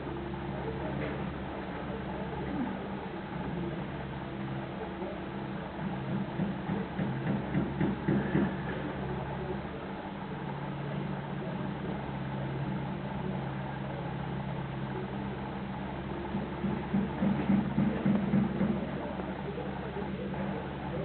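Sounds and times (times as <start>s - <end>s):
diesel lorry engine humming: 0.0s - 21.0s.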